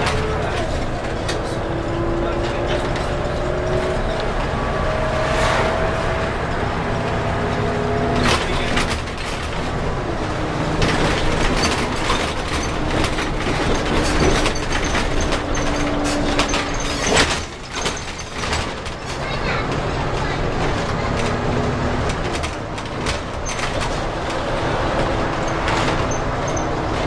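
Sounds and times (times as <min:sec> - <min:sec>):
bus body rattling and knocking: 0:00.0 - 0:05.1, 0:06.0 - 0:27.0
bus engine running: 0:00.0 - 0:27.0.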